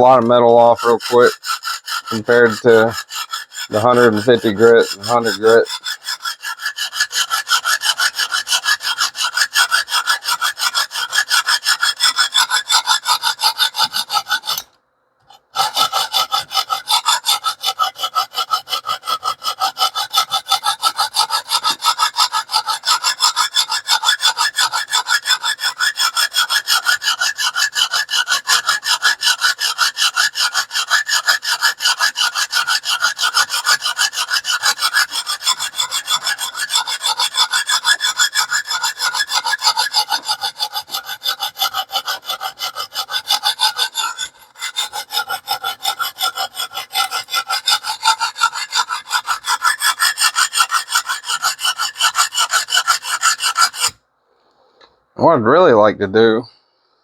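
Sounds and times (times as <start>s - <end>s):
sharpening stone rasping on blade: 0.1s - 14.7s, 15.3s - 54.0s.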